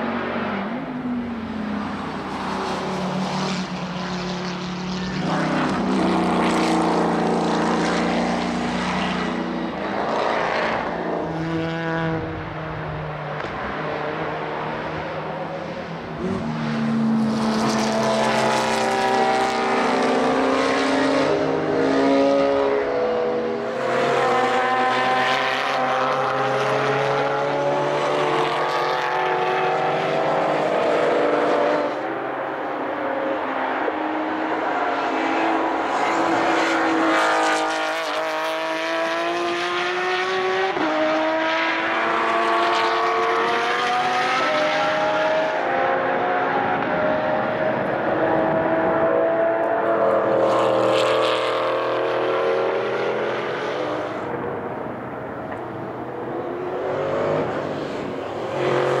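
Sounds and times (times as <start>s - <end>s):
racing car engines passing: 0.0s - 59.0s.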